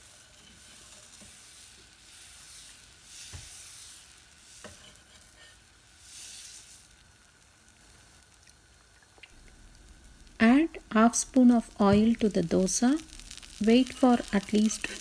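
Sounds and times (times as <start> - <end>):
batter sizzling on a pan: 0.0 - 15.0.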